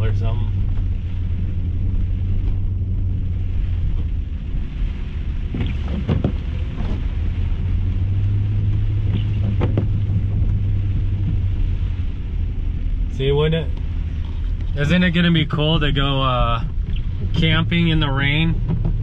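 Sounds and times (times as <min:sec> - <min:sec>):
engine and tyres droning: 0:00.0 - 0:19.0
windshield wipers swishing: 0:00.0 - 0:19.0.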